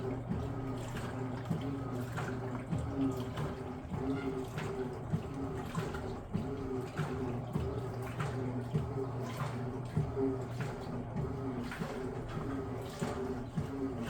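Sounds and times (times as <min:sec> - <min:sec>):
washing machine motor humming: 0:00.0 - 0:14.0
water sloshing and splashing: 0:00.0 - 0:14.0.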